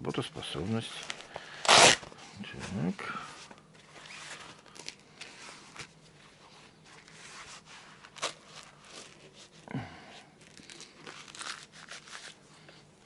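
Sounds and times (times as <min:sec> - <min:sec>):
cuff rustling: 0:01.0 - 0:09.7, 0:10.3 - 0:13.0.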